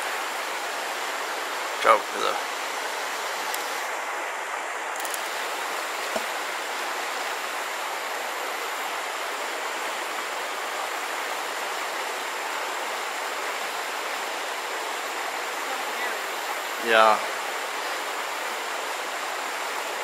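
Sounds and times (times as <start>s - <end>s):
creek water flowing: 0.0s - 20.0s.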